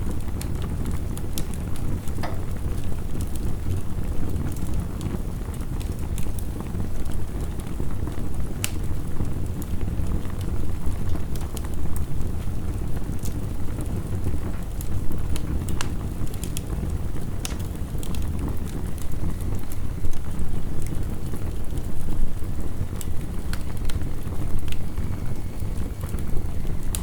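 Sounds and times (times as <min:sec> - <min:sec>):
heavy rain rumble: 0:00.0 - 0:27.0
wood fire crackling: 0:00.0 - 0:27.0.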